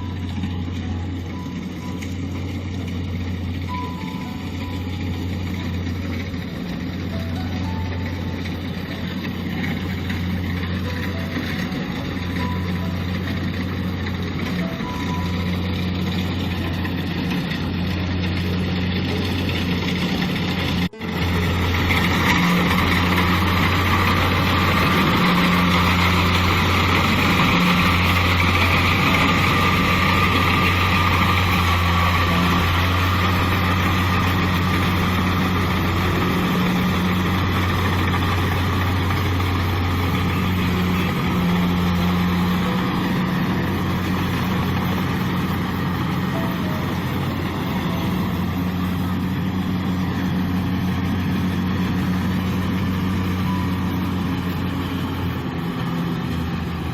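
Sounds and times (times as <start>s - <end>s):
combine harvester engine running: 0.0s - 56.9s.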